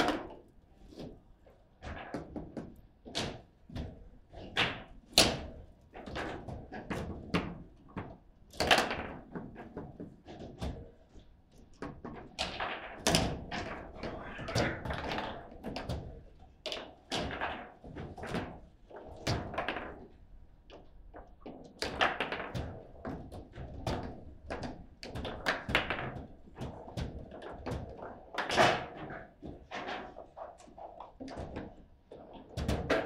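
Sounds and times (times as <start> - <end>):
table football knocks and clacks: 0.0 - 1.2, 1.8 - 33.0.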